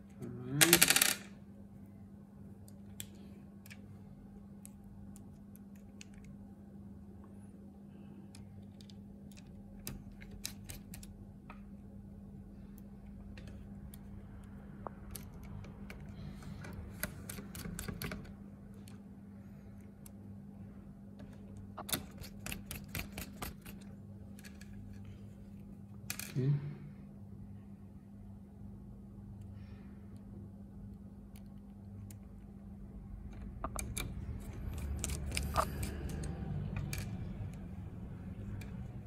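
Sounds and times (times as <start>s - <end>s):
faint low hum: 0.0s - 39.0s.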